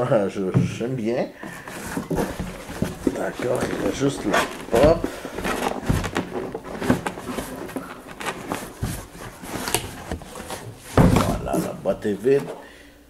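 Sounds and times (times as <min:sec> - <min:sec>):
cardboard box scraping and rustling: 0:01.4 - 0:12.6.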